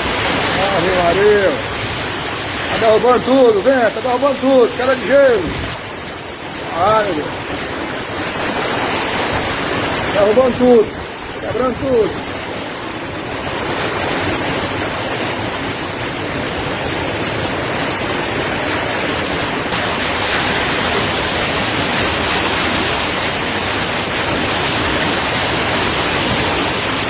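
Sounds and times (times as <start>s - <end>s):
hail: 0.0s - 27.0s
strong wind: 0.0s - 27.0s
torrential rain: 0.0s - 27.0s.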